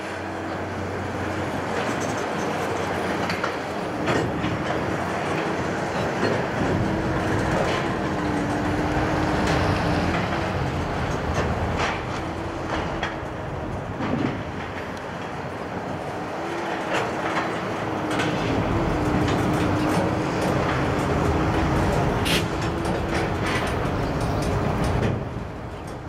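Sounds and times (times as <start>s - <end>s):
freight train rumble: 0.0s - 26.0s
train wheels clicking over rails: 0.0s - 26.0s.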